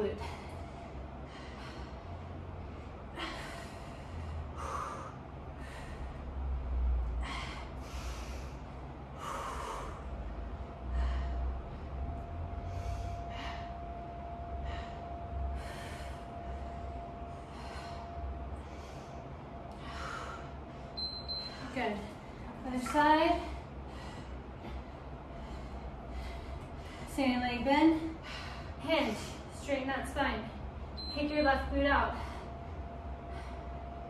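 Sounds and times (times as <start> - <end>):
low rumble: 0.0 - 34.0
person breathing hard: 0.2 - 20.9, 23.4 - 27.2, 28.0 - 29.5, 32.1 - 34.0.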